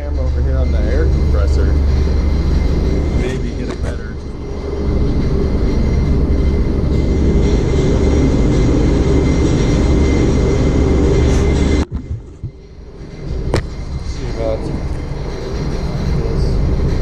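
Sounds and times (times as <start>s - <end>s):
air compressor droning: 0.0s - 17.0s.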